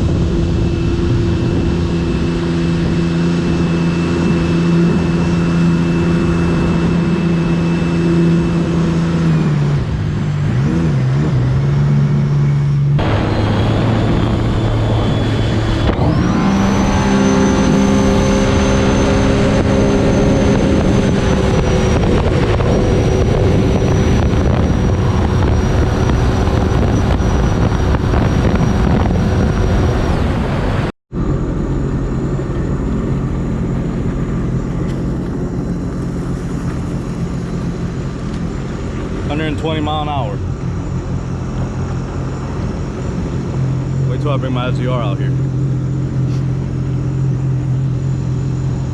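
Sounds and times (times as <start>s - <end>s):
jet ski engine running: 0.0s - 48.9s.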